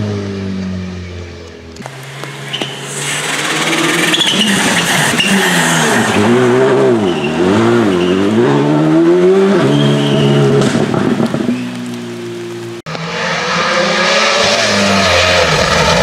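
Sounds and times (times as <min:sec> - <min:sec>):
rally car engine revving: 0:00.0 - 0:12.1, 0:12.7 - 0:16.0.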